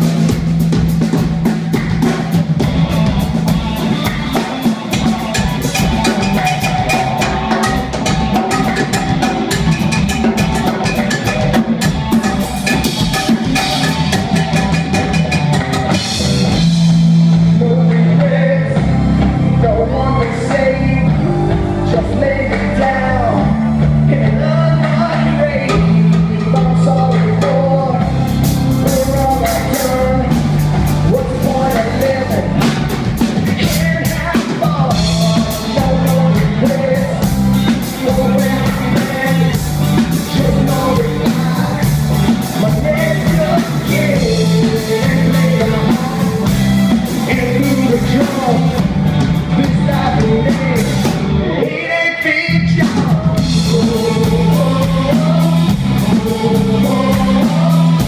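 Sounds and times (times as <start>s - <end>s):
drum kit: 0.0s - 58.0s
electric bass: 0.0s - 58.0s
electric guitar: 0.0s - 58.0s
man singing: 2.0s - 58.0s.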